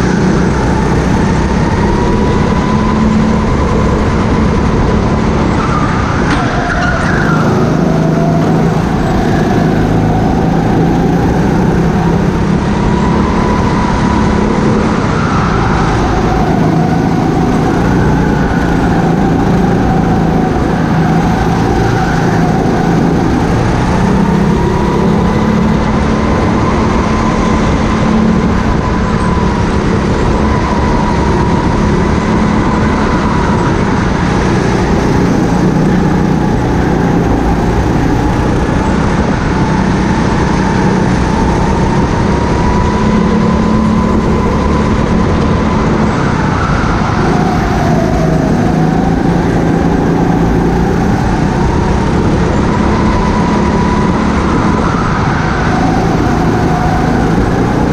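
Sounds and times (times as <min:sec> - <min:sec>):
go-kart motor running: 0:00.0 - 0:57.9.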